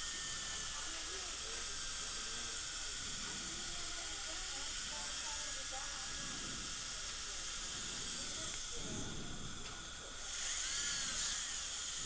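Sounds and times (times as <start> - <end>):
dental equipment hissing: 0.0 - 12.0.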